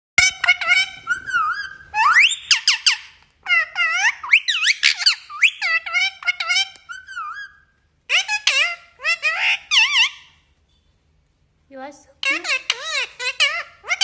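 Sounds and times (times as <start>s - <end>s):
parrot chirping and whistling: 0.2s - 10.4s, 12.2s - 14.0s.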